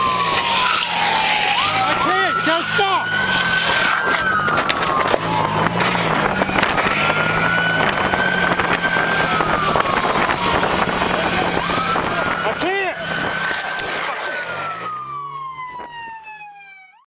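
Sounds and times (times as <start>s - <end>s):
wind and road noise: 0.0s - 16.8s
police siren wailing: 0.0s - 17.0s.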